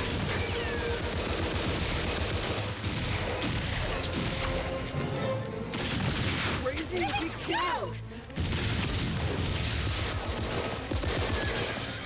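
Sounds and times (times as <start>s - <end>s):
sustained gunfire: 0.0s - 4.6s, 5.7s - 7.2s, 8.4s - 12.0s.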